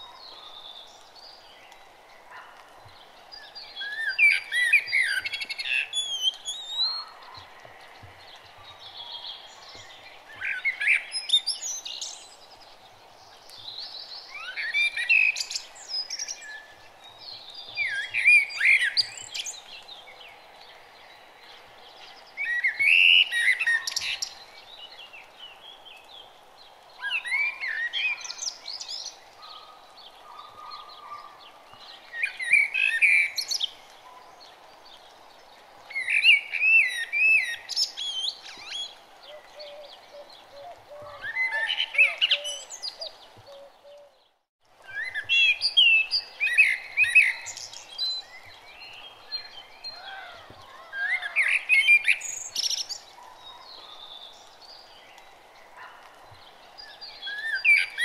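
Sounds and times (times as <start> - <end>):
faint background hiss: 0.0 - 58.0
songbirds warbling: 0.0 - 58.0.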